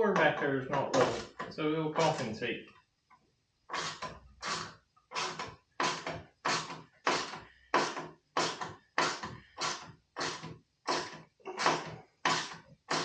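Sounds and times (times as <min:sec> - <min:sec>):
rhythmic hand tool scraping: 0:00.0 - 0:02.4, 0:03.7 - 0:13.0.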